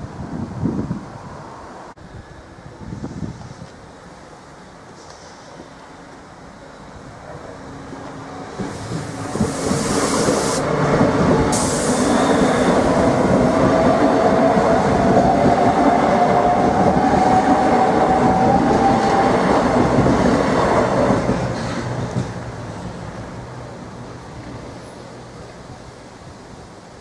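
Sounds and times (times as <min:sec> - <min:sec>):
faint train whine: 0:00.9 - 0:27.0
train wheels rumbling on rails: 0:04.9 - 0:27.0.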